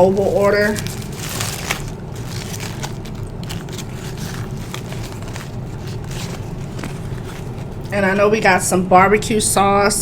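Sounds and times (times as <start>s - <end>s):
paper bag rustling: 0.0s - 8.6s
steady low hum: 0.0s - 10.0s.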